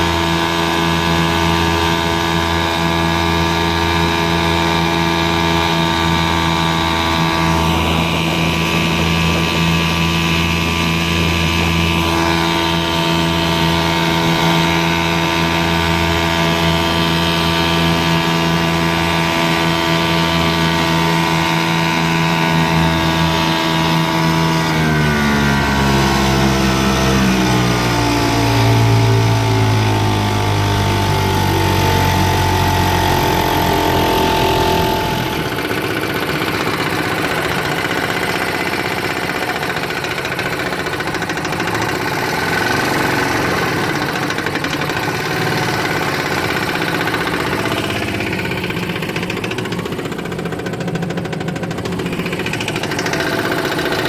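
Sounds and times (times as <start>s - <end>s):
two-stroke outboard motor running: 0.0s - 54.0s.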